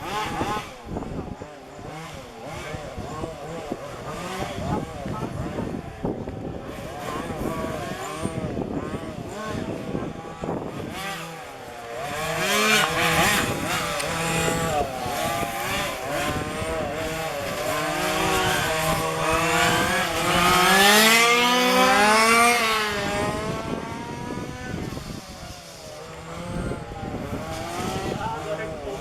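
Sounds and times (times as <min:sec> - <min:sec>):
rc car engines racing: 0:00.0 - 0:29.0.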